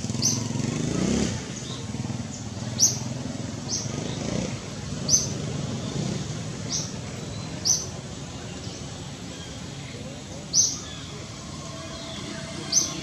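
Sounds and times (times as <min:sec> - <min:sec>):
bird chirps: 0:01.6 - 0:06.0, 0:06.6 - 0:13.0.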